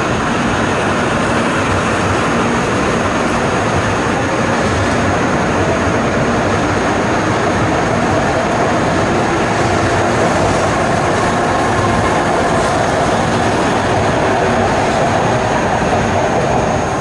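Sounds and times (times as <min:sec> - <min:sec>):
train rushing past: 0:00.0 - 0:17.0.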